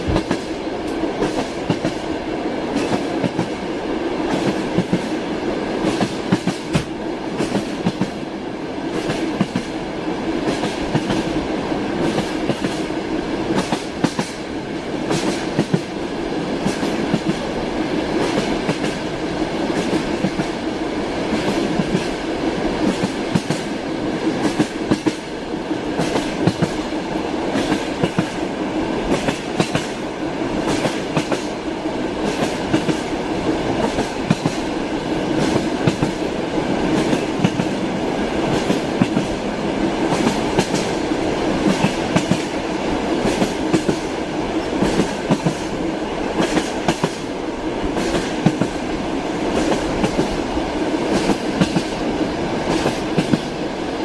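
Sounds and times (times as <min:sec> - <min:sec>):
train wheels clattering over rails: 0:00.0 - 0:53.7.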